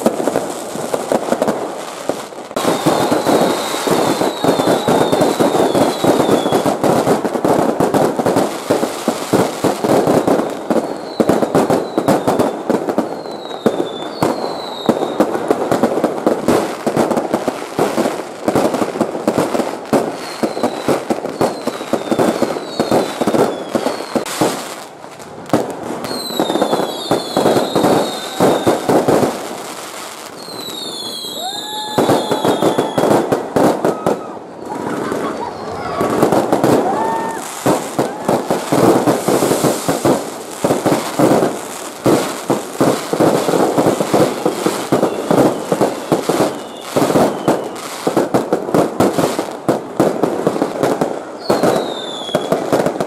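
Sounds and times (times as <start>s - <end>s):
fireworks bangs and crackling: 0.0s - 53.0s
fireworks falling whistles: 0.0s - 53.0s.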